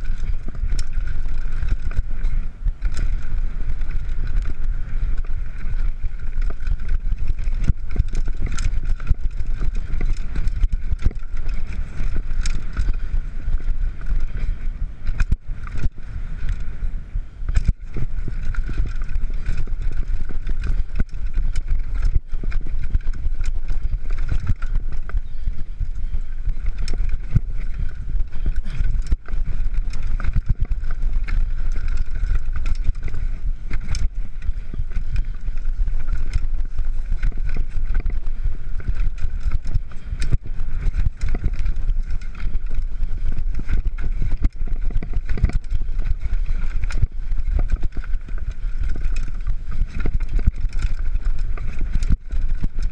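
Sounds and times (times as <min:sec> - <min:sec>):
bike knocking and rattling: 0:00.0 - 0:52.9
wind on microphone: 0:00.0 - 0:52.9.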